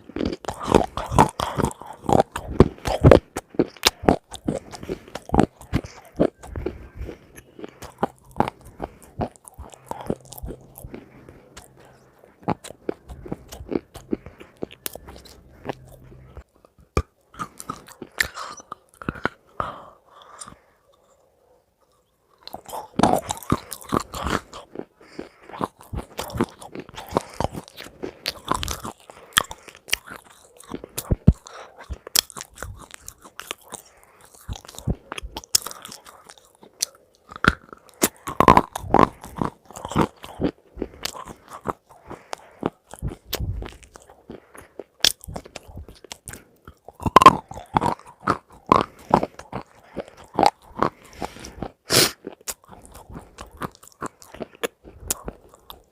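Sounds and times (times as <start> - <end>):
crunchy food being chewed: 0.0 - 55.9.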